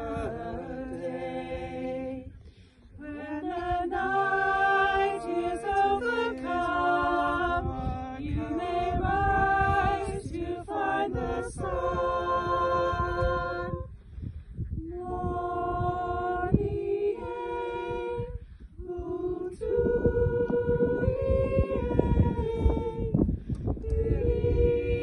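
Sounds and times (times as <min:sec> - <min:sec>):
vocal ensemble singing a cappella: 0:00.0 - 0:25.0.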